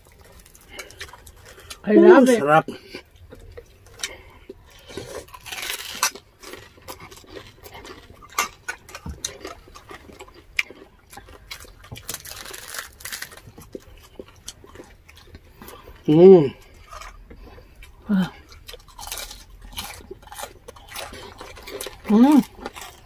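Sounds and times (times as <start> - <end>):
crunching and chewing crisp skin: 0.0 - 23.0.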